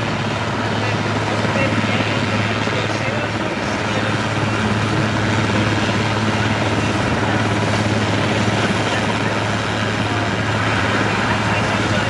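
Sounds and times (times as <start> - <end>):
helicopter rotors and turbines droning: 0.0 - 12.0.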